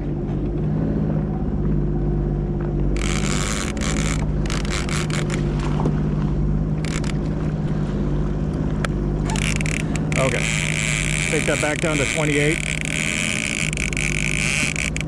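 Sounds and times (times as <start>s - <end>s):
jet ski engine running: 0.0s - 15.0s.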